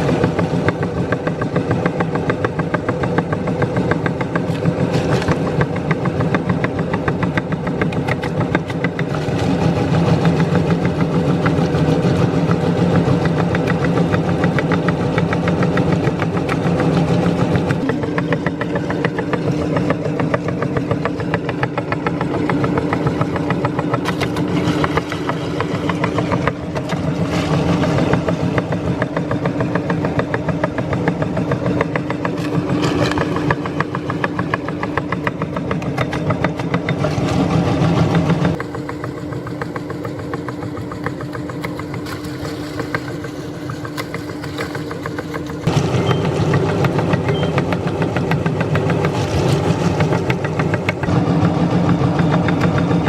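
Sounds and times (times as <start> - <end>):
meat grinder motor hum: 0.0 - 53.0.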